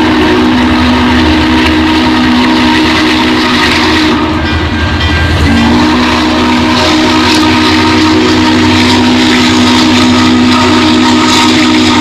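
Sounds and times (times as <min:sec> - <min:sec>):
steam whistle chord: 0:00.0 - 0:12.0.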